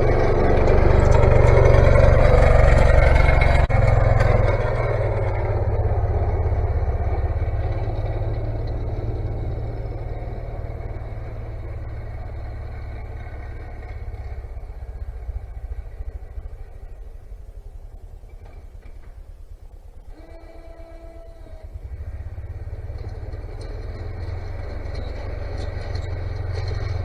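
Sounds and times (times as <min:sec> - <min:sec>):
vehicle engine rumble: 0:00.0 - 0:27.0.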